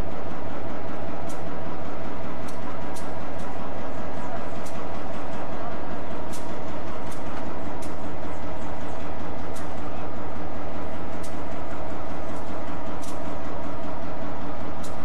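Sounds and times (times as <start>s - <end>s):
locomotive diesel engine running: 0.0s - 15.0s.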